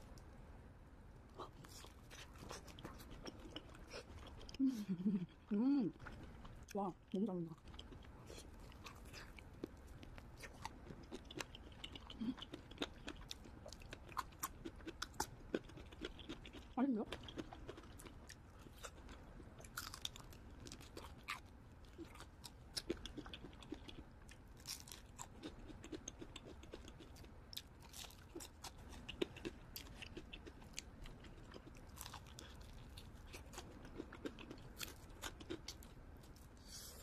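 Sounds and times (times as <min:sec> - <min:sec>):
chewing crisp fried food: 0:01.3 - 0:37.0.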